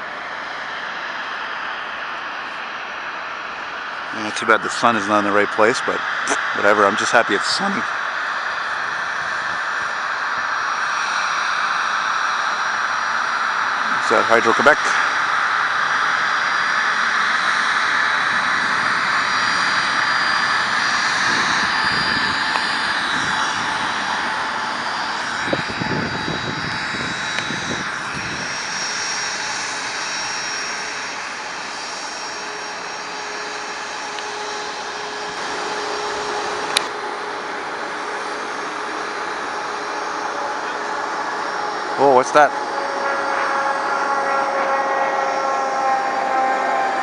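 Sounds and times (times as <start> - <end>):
jet aircraft passing: 0.0 - 47.0.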